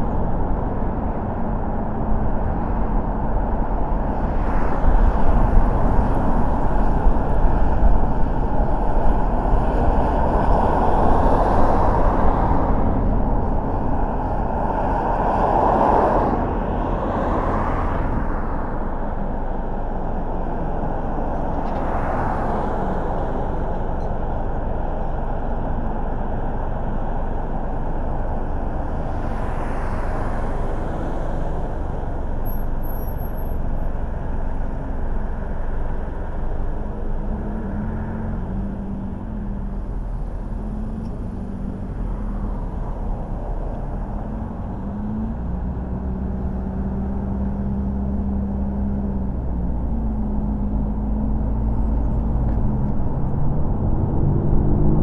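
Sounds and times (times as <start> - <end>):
car engine and tyre rumble: 0.0 - 55.0
passing traffic: 0.0 - 55.0.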